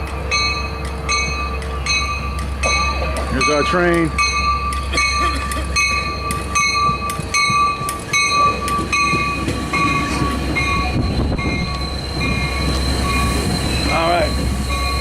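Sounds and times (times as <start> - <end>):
train bell ringing: 0.0 - 15.0
train rumble: 0.0 - 15.0.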